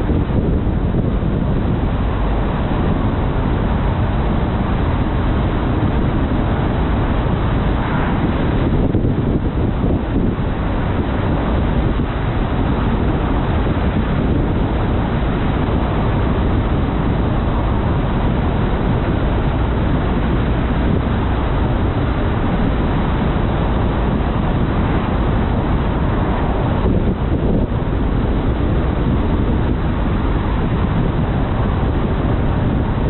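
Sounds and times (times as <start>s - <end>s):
car driving at road speed: 0.0s - 33.0s.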